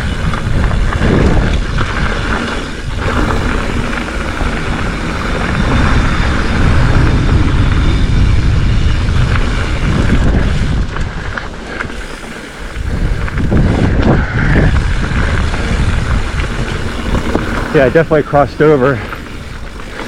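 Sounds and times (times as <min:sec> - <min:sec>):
bike clicks and rattles: 0:00.0 - 0:20.0
bike tyre noise: 0:00.0 - 0:20.0
wind buffeting microphone: 0:00.0 - 0:20.0.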